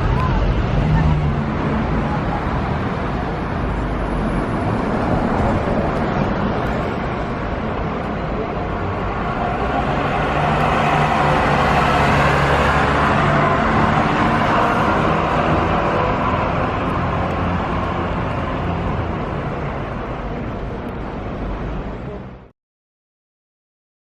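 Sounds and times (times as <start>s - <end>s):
passing cars and buses: 0.0s - 22.5s.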